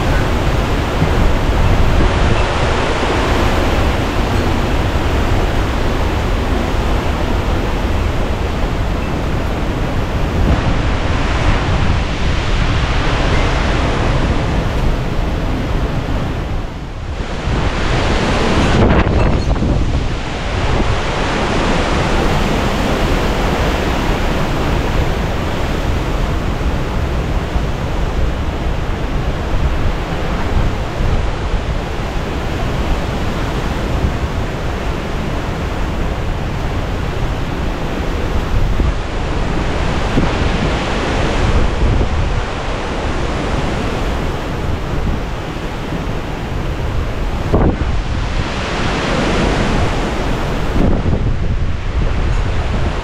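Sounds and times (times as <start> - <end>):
strong wind buffeting microphone: 0.0 - 53.0.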